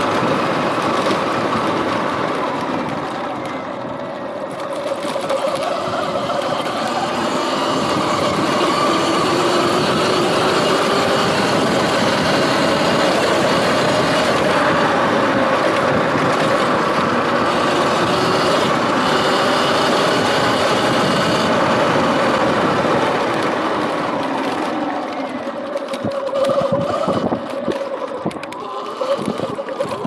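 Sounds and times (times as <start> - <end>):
electric motor whine: 0.0 - 30.0
steady rushing noise: 0.0 - 30.0.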